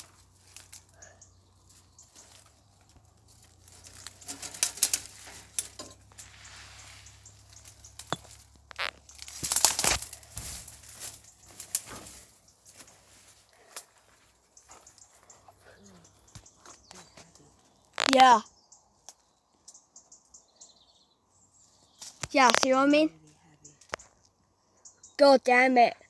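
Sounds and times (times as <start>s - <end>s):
twigs crackling and snapping: 0.0s - 19.8s, 21.9s - 23.0s, 23.8s - 24.4s.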